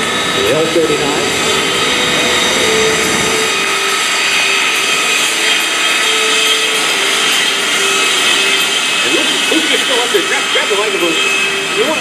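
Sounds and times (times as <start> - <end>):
jet turbine whine: 0.0 - 12.0.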